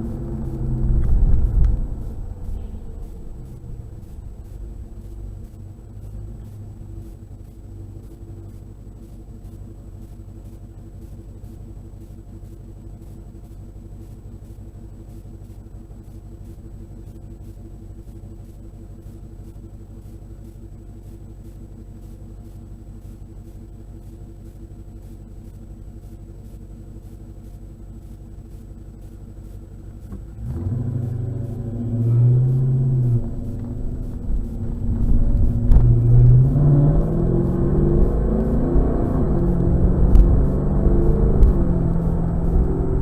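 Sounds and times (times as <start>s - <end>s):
low car exhaust rumble: 0.0s - 43.0s.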